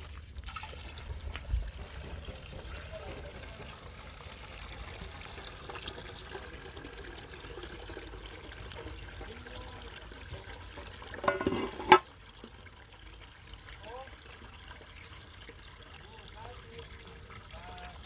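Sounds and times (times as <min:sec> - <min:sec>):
water running: 0:00.0 - 0:18.0.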